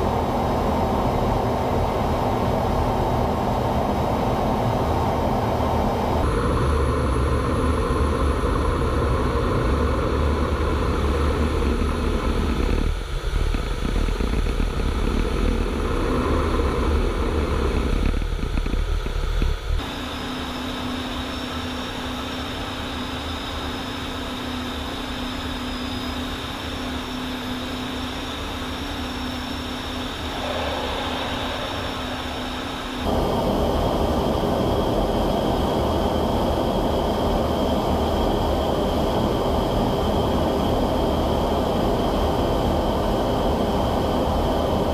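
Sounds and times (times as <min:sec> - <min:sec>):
jet engine and airflow rush: 0:00.0 - 0:44.9
steady hum with high whine: 0:00.0 - 0:44.9.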